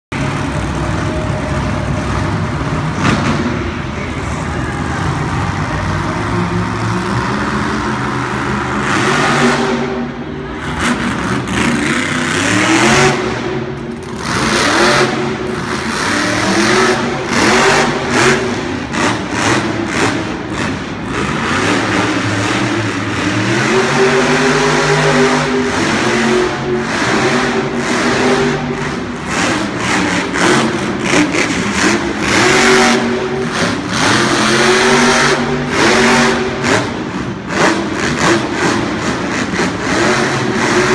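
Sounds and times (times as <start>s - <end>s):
truck engine revving hard: 0.1s - 40.9s.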